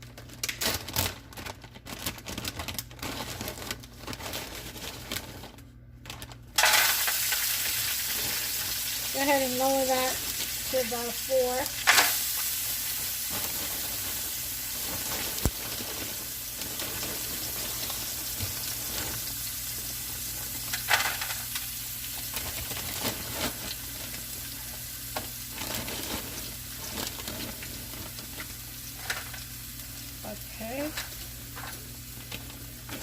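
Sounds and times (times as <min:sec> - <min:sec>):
vegetables sizzling in a pan: 0:06.6 - 0:33.0.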